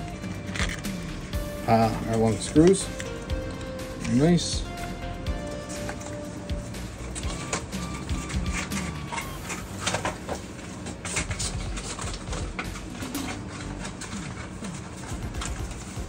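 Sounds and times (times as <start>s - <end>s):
cardboard and packaging rustling: 0.0s - 16.0s.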